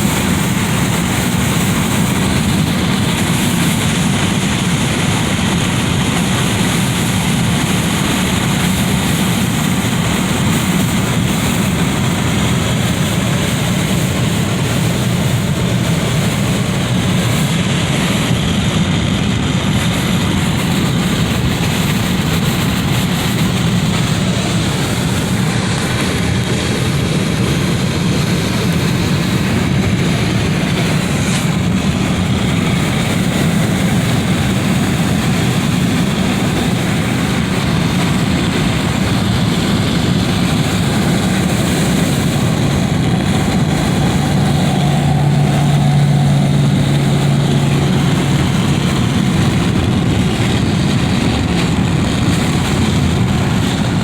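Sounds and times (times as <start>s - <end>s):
wind rushing through window: 0.0s - 54.0s.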